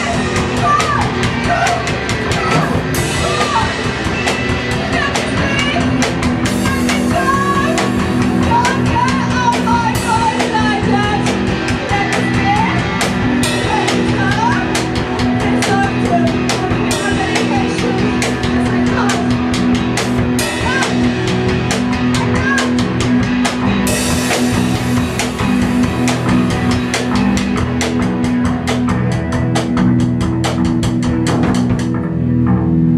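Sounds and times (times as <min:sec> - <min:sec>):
drum kit fast hits: 0:00.0 - 0:32.9
low droning guitar: 0:00.0 - 0:32.9.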